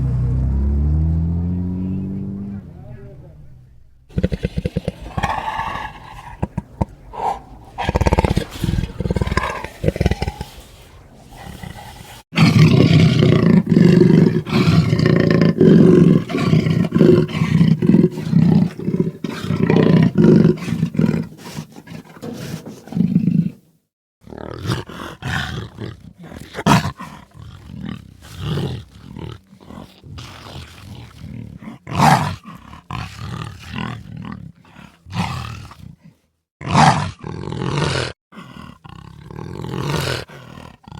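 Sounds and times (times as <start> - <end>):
jaguar roaring and growling: 4.1 - 23.6, 24.2 - 40.9.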